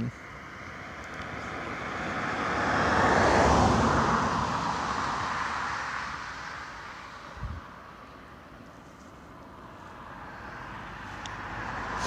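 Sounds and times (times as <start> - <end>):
passing vehicle rushing: 0.3 - 8.0, 9.6 - 12.0.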